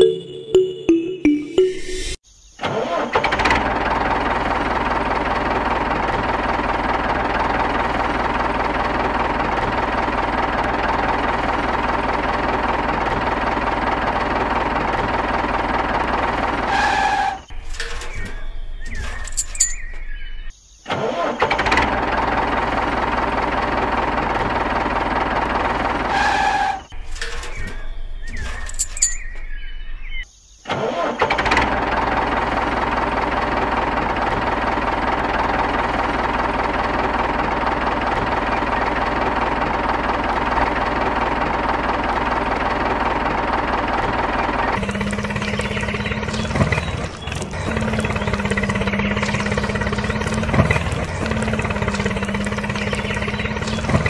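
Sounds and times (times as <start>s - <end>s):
tractor engine chugging: 2.9s - 20.5s, 21.2s - 30.2s, 31.0s - 54.0s.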